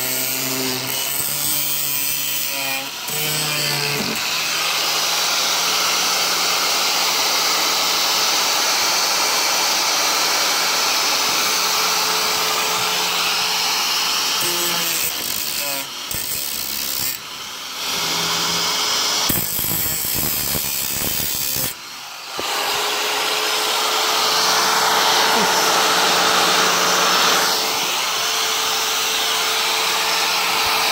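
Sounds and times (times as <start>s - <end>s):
power tool cutting roof panel: 0.0s - 30.9s.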